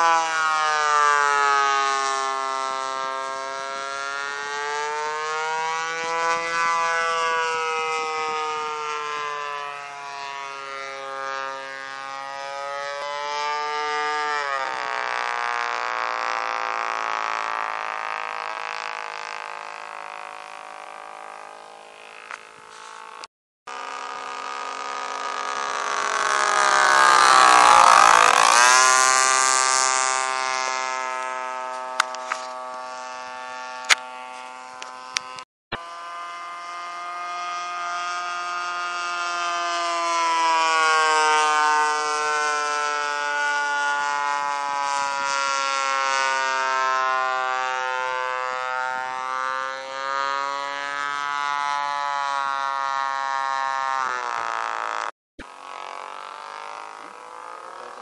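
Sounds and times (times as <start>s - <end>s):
model airplane engine whine: 0.0s - 58.0s.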